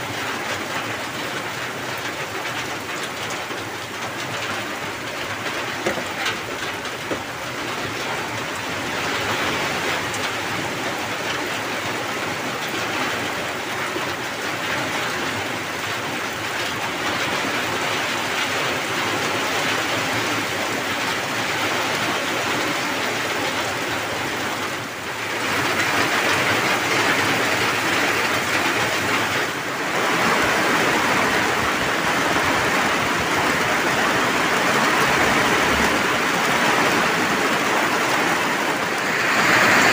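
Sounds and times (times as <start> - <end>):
rain hissing on a roof: 0.0 - 39.9
runoff pouring off roof: 0.0 - 39.9.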